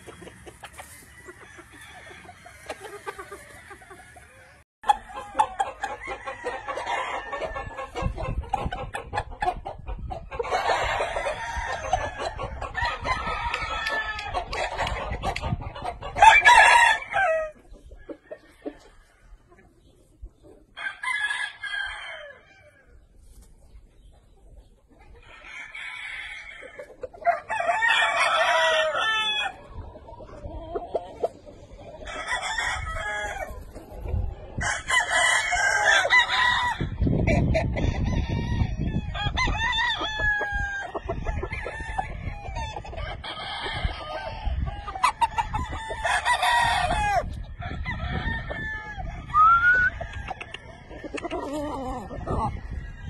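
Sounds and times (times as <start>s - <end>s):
roosters crowing: 0.0s - 9.5s, 10.3s - 19.5s, 20.7s - 23.0s, 25.1s - 53.0s
chickens clucking: 0.0s - 20.8s, 22.6s - 25.6s, 26.4s - 53.0s.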